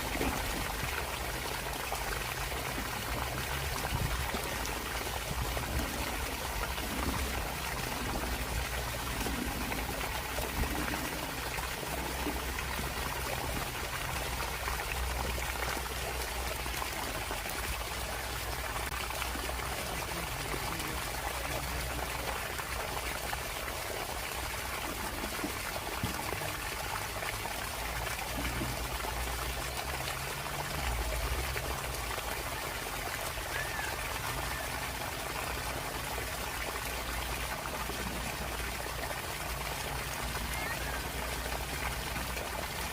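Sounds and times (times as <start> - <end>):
water pouring from pipe: 0.0 - 42.9.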